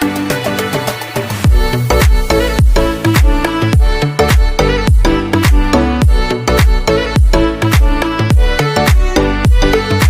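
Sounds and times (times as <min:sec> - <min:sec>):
upbeat dance music: 0:00.0 - 0:10.0.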